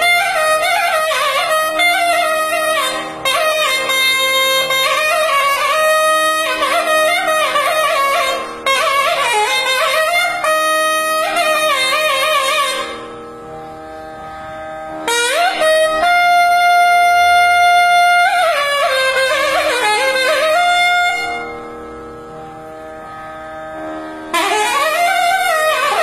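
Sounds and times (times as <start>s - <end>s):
nadaswaram solo: 0.0s - 26.0s.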